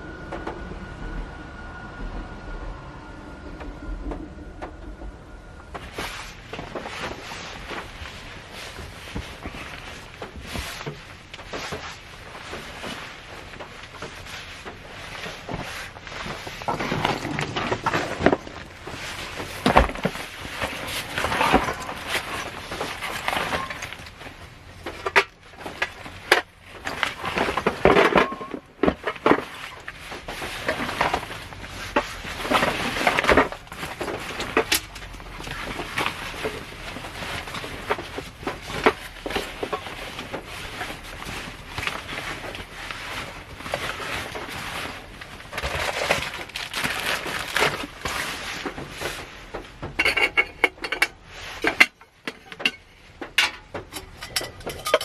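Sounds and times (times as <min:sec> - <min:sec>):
plastic wrapping crinkling: 0:05.8 - 0:51.8.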